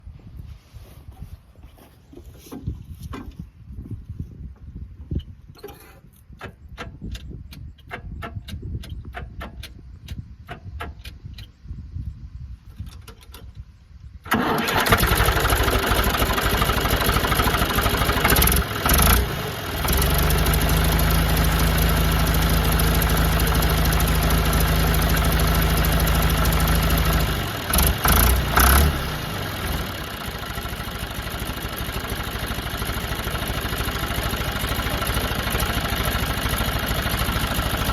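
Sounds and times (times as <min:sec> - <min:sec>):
tractor engine starting and running: 0:05.2 - 0:11.5, 0:12.7 - 0:13.6, 0:14.2 - 0:37.9.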